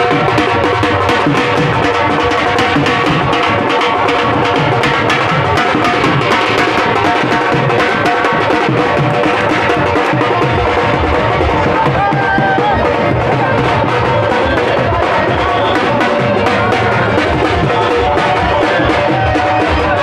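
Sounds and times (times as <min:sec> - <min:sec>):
drum beating fast: 0:00.0 - 0:20.0.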